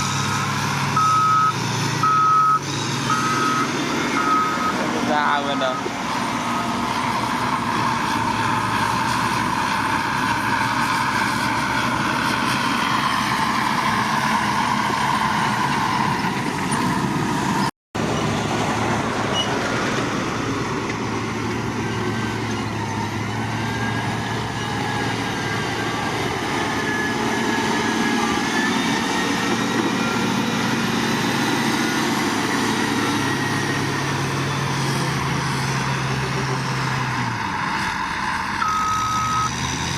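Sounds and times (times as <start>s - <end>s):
heavy machinery engines running: 0.0s - 39.9s.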